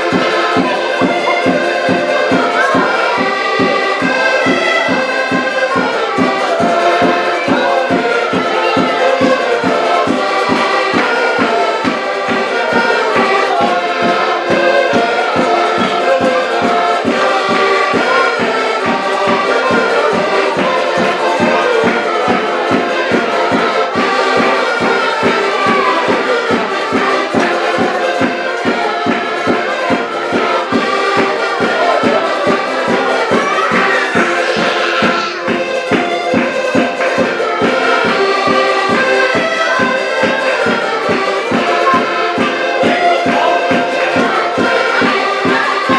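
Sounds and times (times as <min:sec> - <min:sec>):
accordions playing folk tune: 0:00.0 - 0:45.9.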